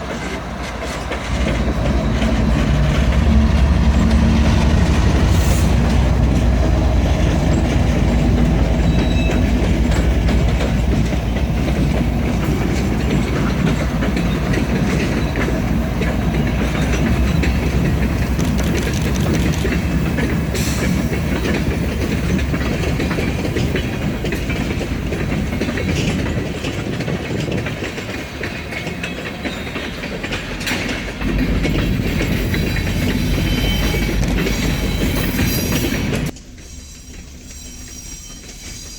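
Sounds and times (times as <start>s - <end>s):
train rumbling by: 0.0s - 38.9s
wheels clacking over rail joints: 0.0s - 38.9s.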